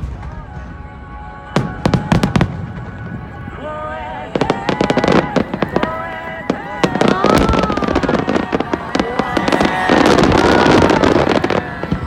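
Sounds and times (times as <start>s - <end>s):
fireworks bursting: 0.0s - 12.0s
fireworks crackling: 0.0s - 12.0s.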